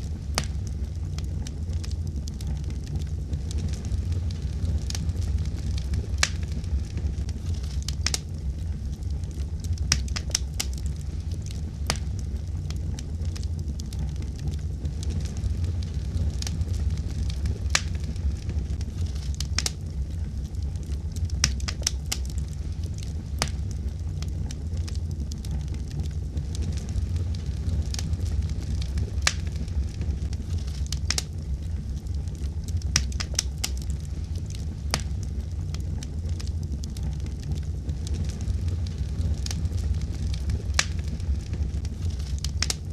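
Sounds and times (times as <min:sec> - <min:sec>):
fire crackling in fireplace: 0:00.0 - 0:42.9.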